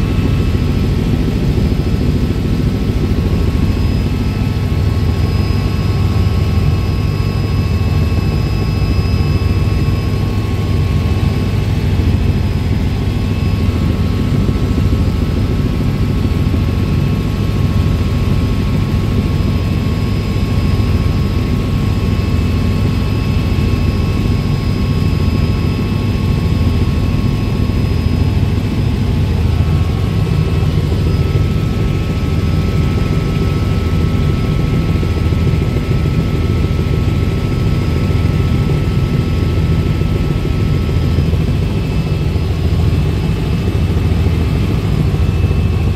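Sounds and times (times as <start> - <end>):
helicopter rotor and engine drone: 0.0 - 45.9.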